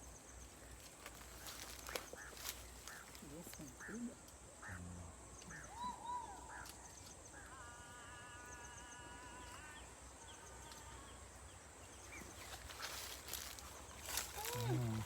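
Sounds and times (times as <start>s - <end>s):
faint bird chirps: 1.3s - 15.0s.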